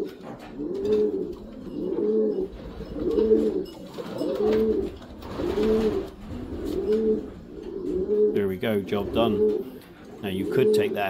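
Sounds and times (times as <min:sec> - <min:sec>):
pigeon cooing: 0:00.0 - 0:11.0.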